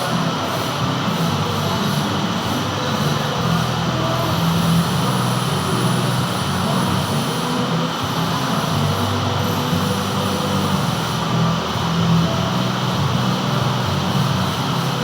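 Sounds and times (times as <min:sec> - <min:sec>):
metal lathe hum: 0:00.0 - 0:15.0.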